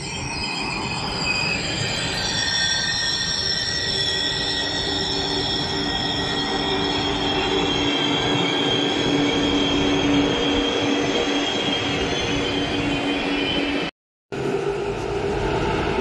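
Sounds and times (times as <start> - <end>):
train wheels squealing on rails: 0.0 - 16.0
rumble of train wheels: 0.2 - 16.0.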